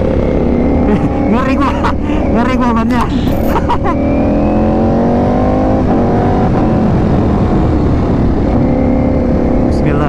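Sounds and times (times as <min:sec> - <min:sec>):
motorcycle engine accelerating: 0:00.0 - 0:10.0
wind rushing: 0:00.0 - 0:10.0.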